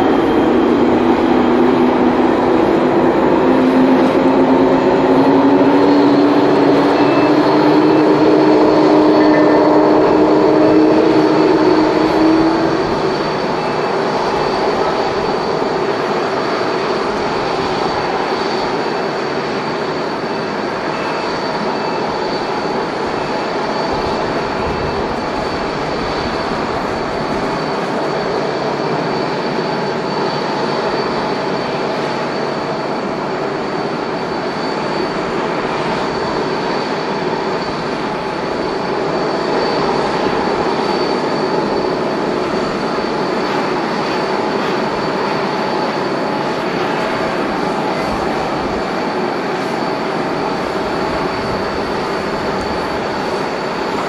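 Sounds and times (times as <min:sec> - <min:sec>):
jet engines at taxi power: 0:00.0 - 0:54.0.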